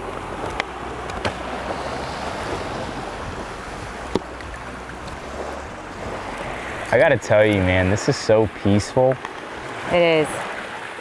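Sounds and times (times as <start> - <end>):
waves washing onto beach: 0.0 - 11.0
wind rumbling on microphone: 0.0 - 11.0.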